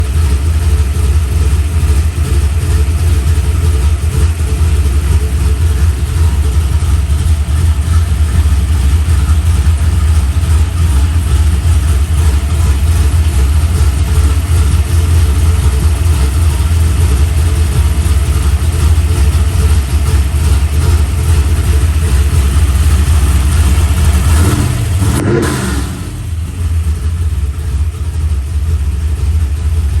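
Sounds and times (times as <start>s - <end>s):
engine throttle blip: 0.0s - 29.2s
car engine idling: 0.0s - 30.0s.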